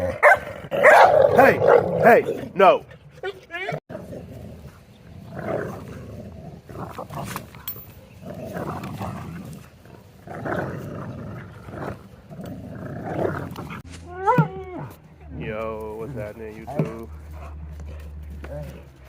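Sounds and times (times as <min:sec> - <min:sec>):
puppies growling and snarling: 0:00.0 - 0:19.0.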